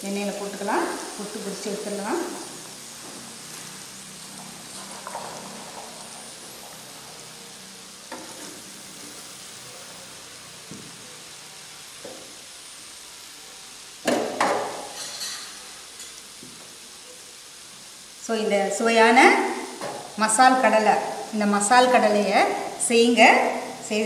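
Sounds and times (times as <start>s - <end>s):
deep-frying sizzle: 0.0s - 24.0s.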